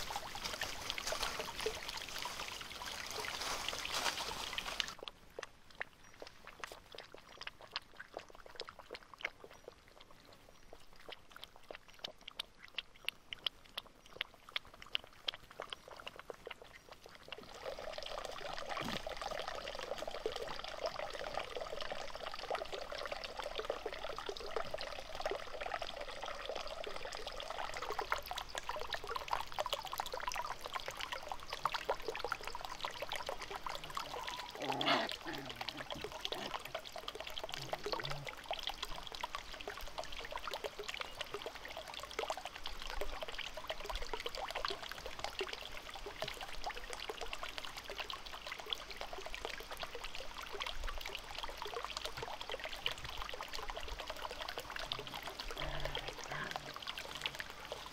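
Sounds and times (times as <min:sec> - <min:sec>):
puppies lapping water: 0:00.0 - 0:57.9
water trickling into pond: 0:00.0 - 0:57.9.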